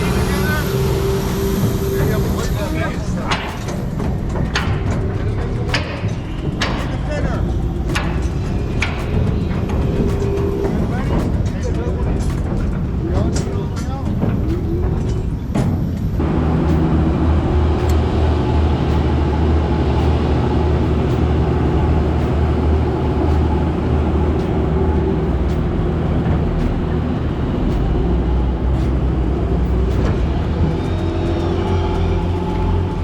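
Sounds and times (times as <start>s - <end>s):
diesel engine humming: 0.0s - 33.0s.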